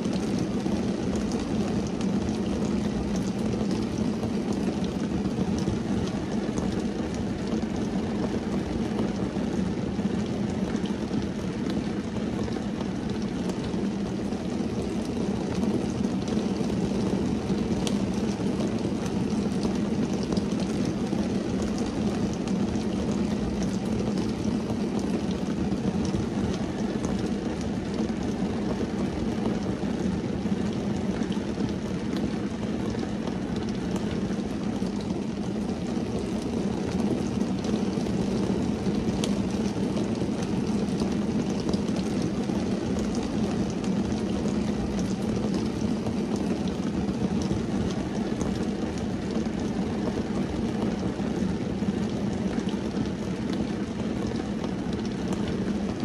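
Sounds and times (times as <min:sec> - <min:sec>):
rain drumming on car roof: 0:00.0 - 0:56.0.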